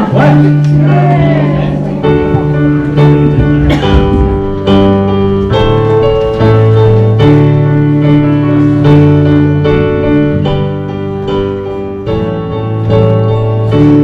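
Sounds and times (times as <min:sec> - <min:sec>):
keyboard playing piano chords: 0:00.0 - 0:14.0.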